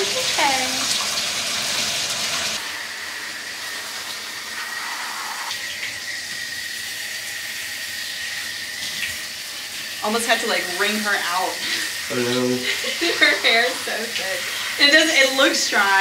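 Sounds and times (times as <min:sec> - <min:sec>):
shower spray hissing: 0:00.0 - 0:16.0.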